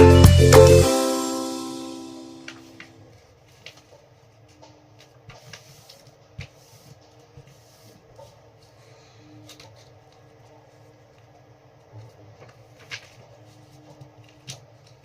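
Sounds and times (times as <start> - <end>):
paper rustling and creasing: 2.8 - 15.0.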